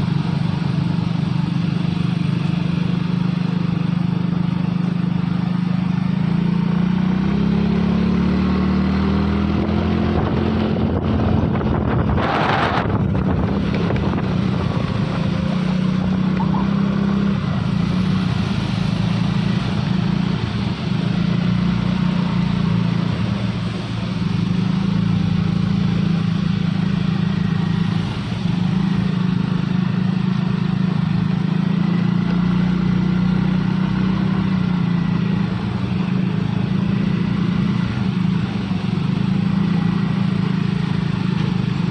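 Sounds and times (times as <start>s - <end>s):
diesel truck engine revving high: 5.4s - 41.9s.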